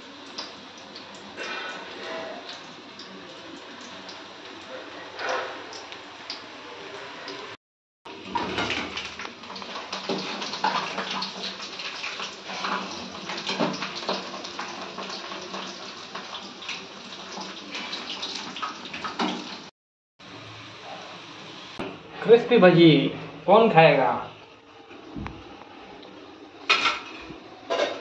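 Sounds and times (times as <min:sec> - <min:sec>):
batter deep-frying in oil: 0:00.0 - 0:28.0.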